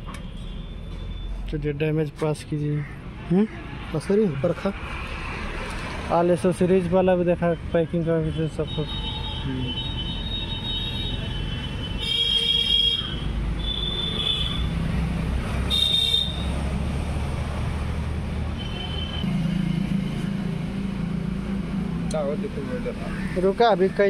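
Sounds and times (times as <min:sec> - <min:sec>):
traffic engine rumble: 0:00.0 - 0:24.0.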